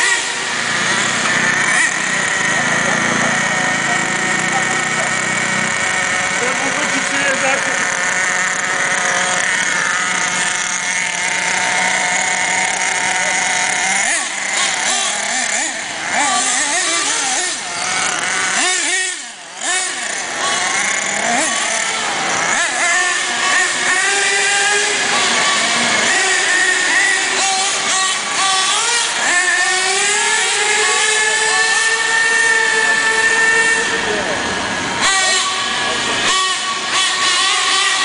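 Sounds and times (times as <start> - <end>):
small nitro engines buzzing: 0.0 - 38.0.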